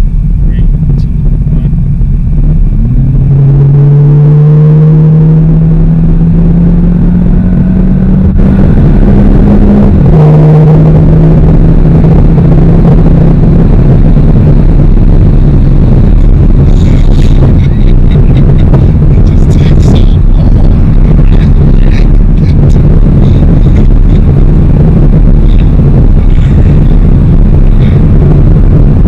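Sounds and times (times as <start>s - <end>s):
car engine accelerating: 0.0s - 29.0s
road rumble: 0.0s - 29.0s.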